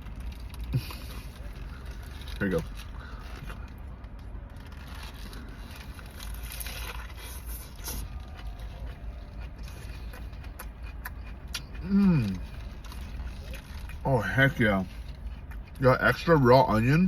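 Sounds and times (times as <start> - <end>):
crinkling and handling noises: 0.0 - 15.8
car rumble: 0.0 - 17.0.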